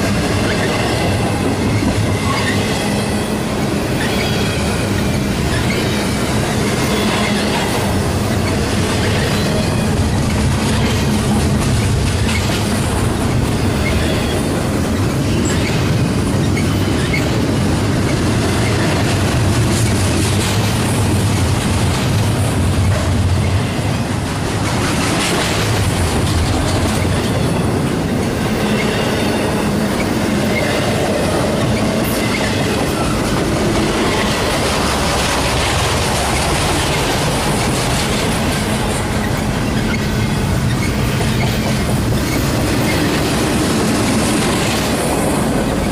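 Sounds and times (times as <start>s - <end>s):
train wheels rumbling and clattering: 0.0s - 45.9s.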